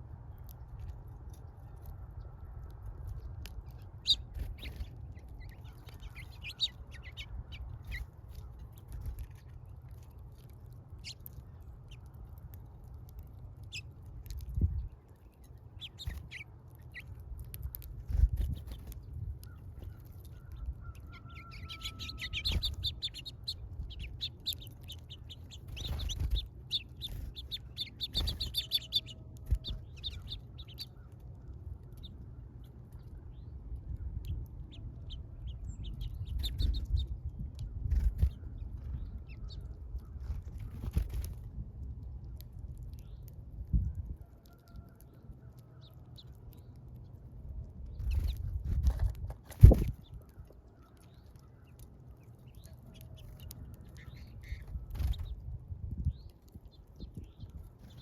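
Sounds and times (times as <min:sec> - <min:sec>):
steady low rumble: 0:00.0 - 0:44.2, 0:45.0 - 0:58.0
small birds chirping: 0:00.0 - 0:58.0.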